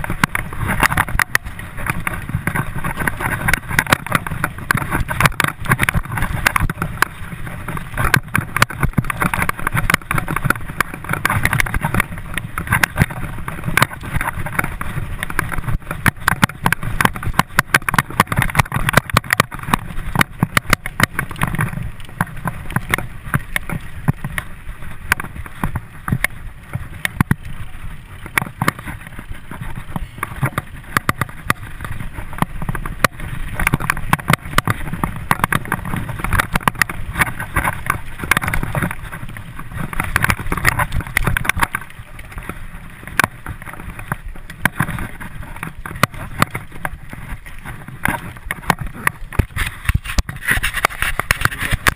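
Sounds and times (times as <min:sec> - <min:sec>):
bike rattling and knocking: 0:00.0 - 0:51.9
tyres rumbling on dirt: 0:00.0 - 0:51.9
wind on microphone: 0:00.0 - 0:51.9.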